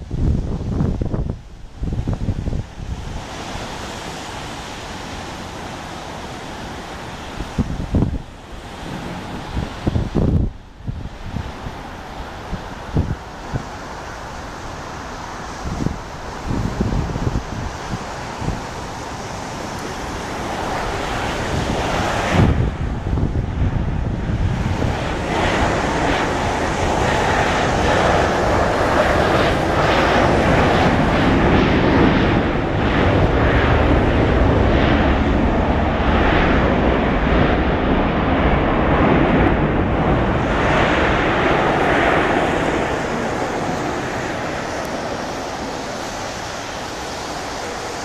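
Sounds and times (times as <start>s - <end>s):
jet engines in reverse thrust: 0.0s - 48.0s.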